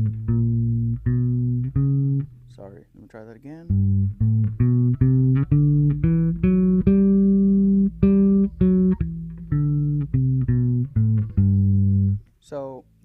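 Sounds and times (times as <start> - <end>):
electric bass notes: 0.0 - 2.8, 3.5 - 13.0.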